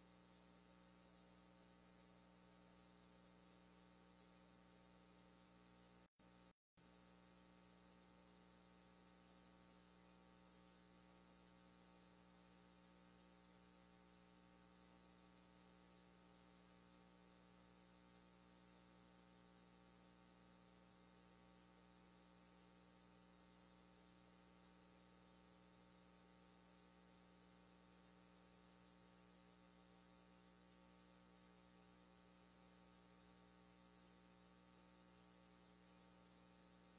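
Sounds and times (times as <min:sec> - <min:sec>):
faint electrical hum and hiss: 0:00.0 - 0:36.9.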